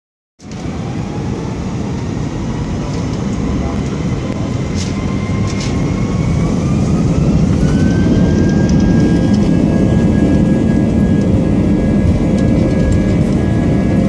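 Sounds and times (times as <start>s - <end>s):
jet engines spooling up: 0.4s - 14.0s.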